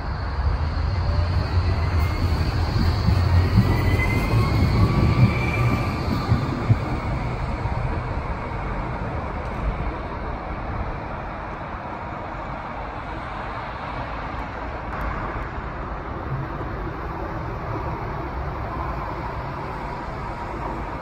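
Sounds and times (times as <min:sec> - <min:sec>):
road traffic passing cars: 0:00.0 - 0:21.0
tram rumble: 0:00.0 - 0:21.0.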